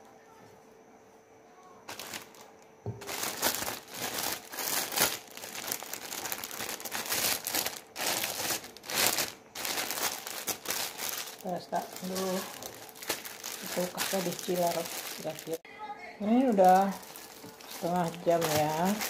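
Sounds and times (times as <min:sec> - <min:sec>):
plastic bag crinkling: 0:01.9 - 0:15.6, 0:16.2 - 0:19.0.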